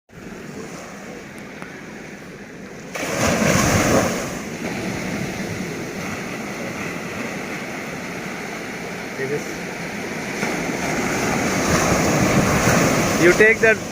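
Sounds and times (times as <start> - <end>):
sea surf rushing on shore: 0.1 - 13.9
wave breaking: 0.2 - 13.9.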